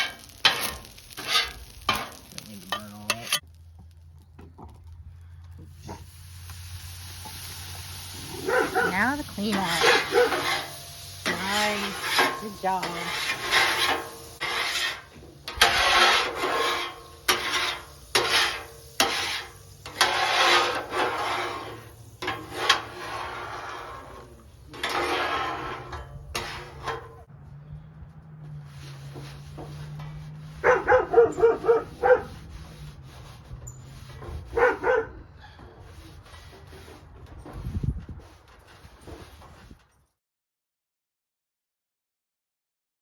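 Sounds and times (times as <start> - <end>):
grill being scraped: 0.0 - 3.6, 5.7 - 27.3, 28.6 - 34.8, 35.8 - 40.0.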